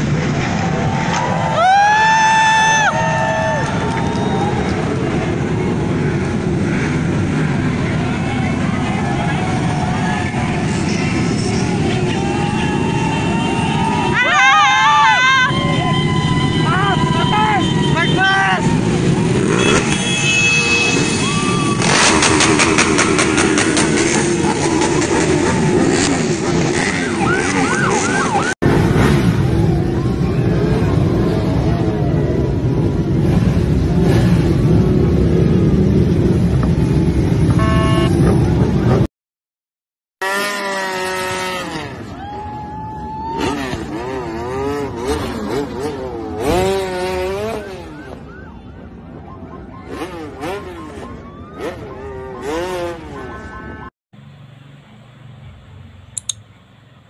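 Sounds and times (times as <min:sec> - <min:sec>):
motorcycle engines running: 0:03.0 - 0:39.1, 0:40.2 - 0:57.0.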